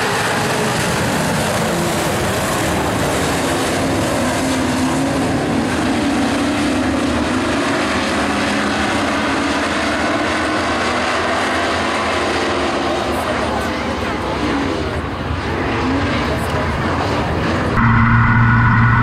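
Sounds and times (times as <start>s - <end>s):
race truck engines droning: 0.0s - 19.0s.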